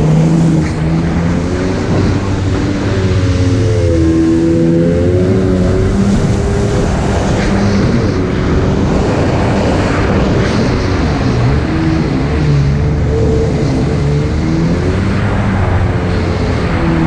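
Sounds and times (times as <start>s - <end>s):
jet ski engine running: 0.0s - 17.0s
rush of wind and water: 0.0s - 17.0s.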